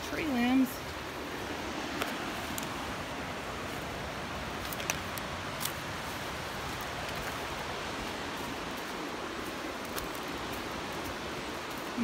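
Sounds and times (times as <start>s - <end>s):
rushing flood water: 0.0s - 12.0s.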